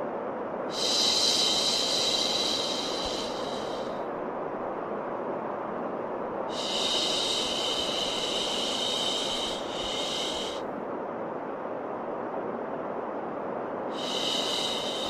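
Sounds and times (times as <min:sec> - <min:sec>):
white noise: 0:00.0 - 0:15.0.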